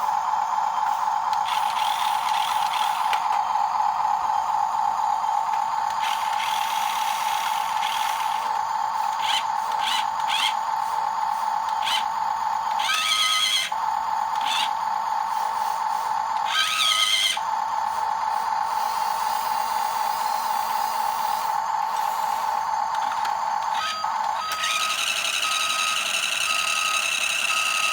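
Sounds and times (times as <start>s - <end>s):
small electric motor whine: 0.0s - 27.9s.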